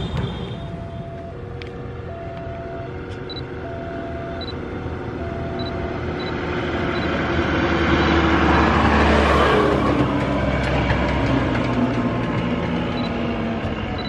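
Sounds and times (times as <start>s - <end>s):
low engine hum: 0.0s - 14.0s
motor vehicle passing by: 2.0s - 14.0s.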